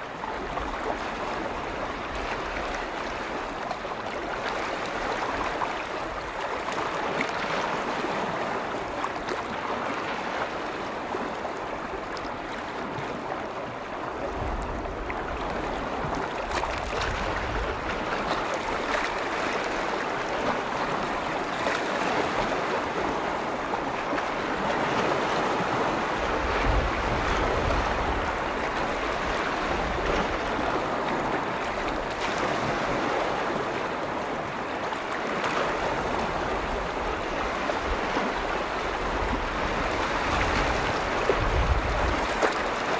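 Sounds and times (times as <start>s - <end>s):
lake waves washing in: 0.0s - 42.9s
wind rumble on microphone: 0.0s - 42.9s.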